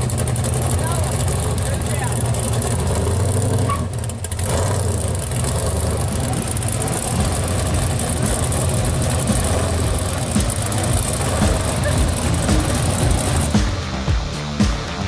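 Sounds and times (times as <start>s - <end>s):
supercharged car engine idling: 0.0s - 15.0s.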